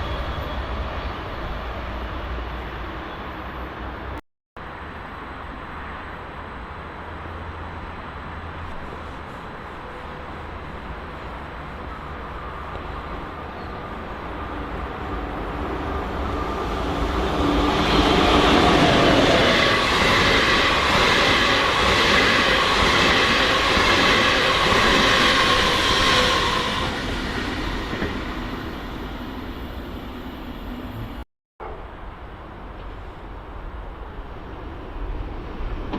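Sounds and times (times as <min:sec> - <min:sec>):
train passing on track: 0:00.0 - 0:35.9.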